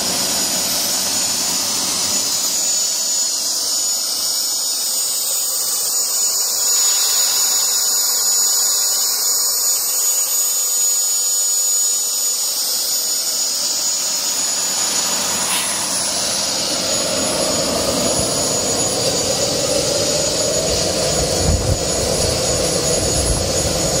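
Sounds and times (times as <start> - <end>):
loud rushing hiss: 0.0 - 24.0
turbine whine: 0.0 - 24.0.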